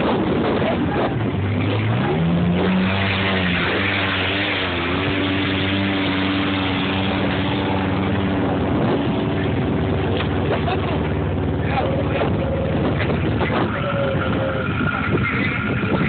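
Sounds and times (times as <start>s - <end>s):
off-road engines climbing: 0.0s - 16.0s.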